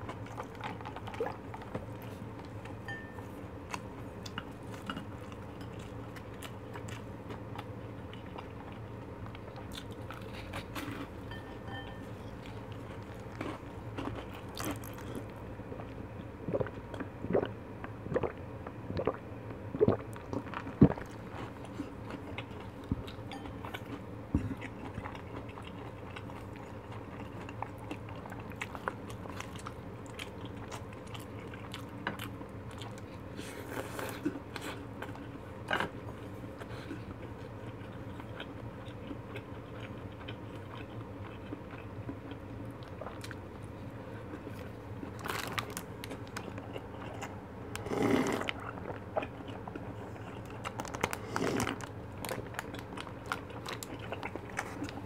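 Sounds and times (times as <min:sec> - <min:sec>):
food being bitten and chewed: 0:00.0 - 0:55.0
steady low hum: 0:00.0 - 0:55.0.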